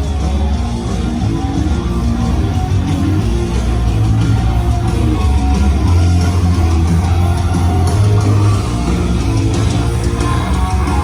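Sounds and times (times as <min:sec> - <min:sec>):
distorted electric guitar: 0:00.0 - 0:11.0
heavy held bass line: 0:00.0 - 0:11.0.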